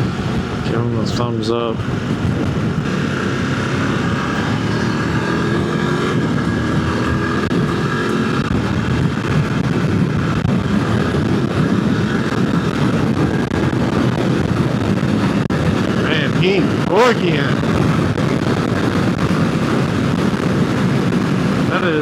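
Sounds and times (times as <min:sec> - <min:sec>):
motorcycle engine accelerating: 0:00.0 - 0:22.0
wind rush on microphone: 0:00.0 - 0:22.0.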